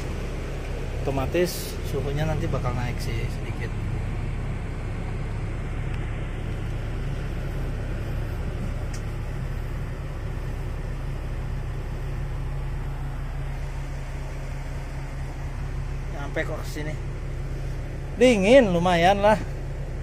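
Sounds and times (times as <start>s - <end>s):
air conditioner blowing: 0.0s - 20.0s
engine idling: 0.0s - 20.0s.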